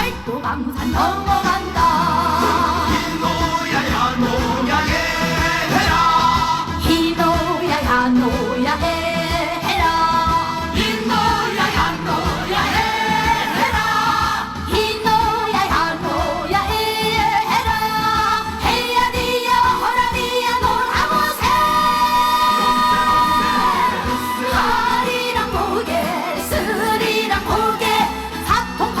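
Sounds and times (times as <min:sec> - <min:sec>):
band accompaniment with steady beat: 0:00.0 - 0:29.0
woman singing: 0:00.0 - 0:29.0.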